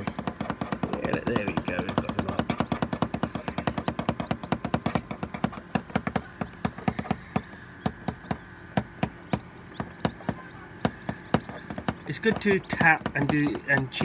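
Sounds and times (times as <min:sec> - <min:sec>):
fingertip tapping plastic lid: 0:00.0 - 0:14.0.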